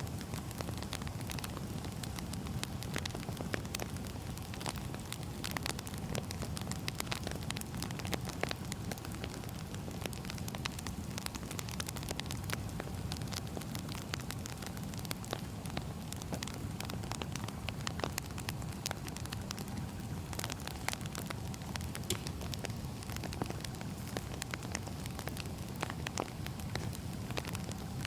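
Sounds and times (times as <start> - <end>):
burning logs crackling and popping: 0.0 - 28.0
flames rumbling: 0.0 - 28.0.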